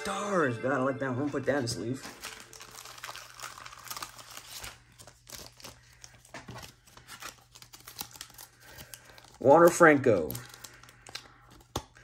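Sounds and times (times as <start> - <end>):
plastic sleeve crinkling: 1.6 - 12.0.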